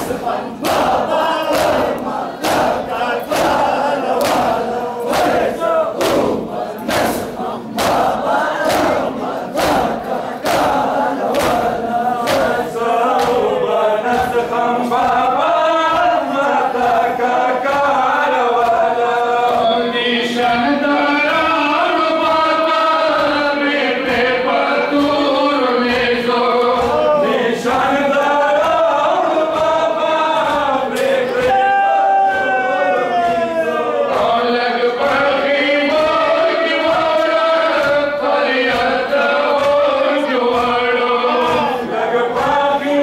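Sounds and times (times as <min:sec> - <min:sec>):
men chanting a lament: 0:00.0 - 0:43.0
rhythmic chest-beating slaps: 0:00.0 - 0:43.0.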